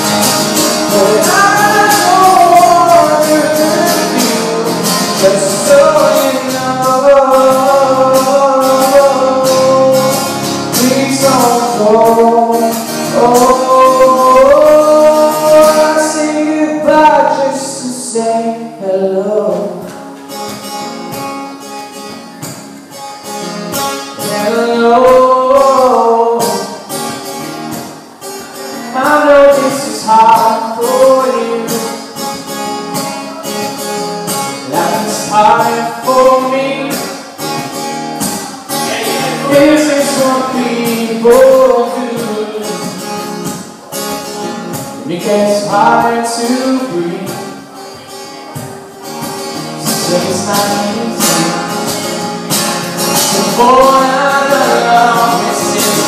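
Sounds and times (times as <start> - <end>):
acoustic guitar strumming: 0.0 - 56.0
man singing: 0.7 - 19.9, 24.1 - 26.9, 28.7 - 37.4, 38.2 - 43.6, 45.0 - 48.0, 49.8 - 56.0.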